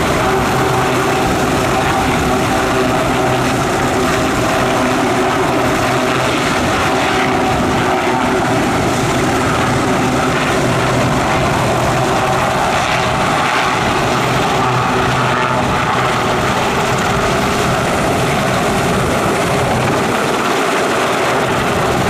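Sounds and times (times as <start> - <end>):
helicopter hovering: 0.0 - 22.0.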